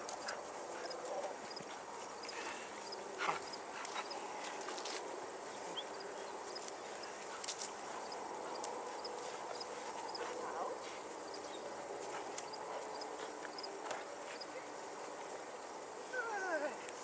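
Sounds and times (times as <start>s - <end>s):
insect chirring: 0.1s - 14.5s.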